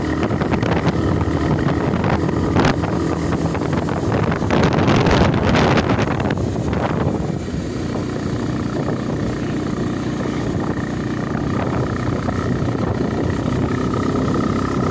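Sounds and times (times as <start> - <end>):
engine rumbling: 0.0 - 14.9.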